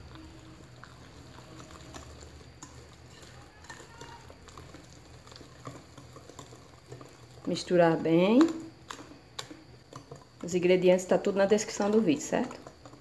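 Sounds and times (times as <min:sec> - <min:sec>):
batter squishing: 0:00.0 - 0:13.0.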